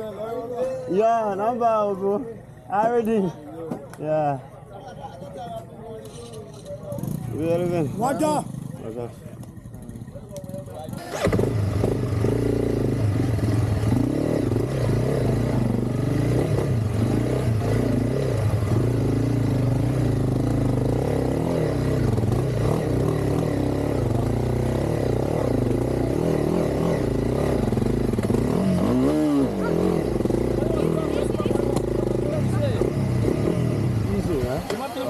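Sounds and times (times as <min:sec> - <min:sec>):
motorcycle engine under load: 0:06.1 - 0:35.0.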